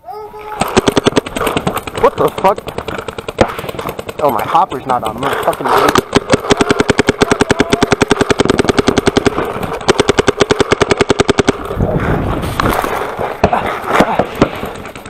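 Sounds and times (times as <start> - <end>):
paintball marker rapid firing: 0.5 - 15.0.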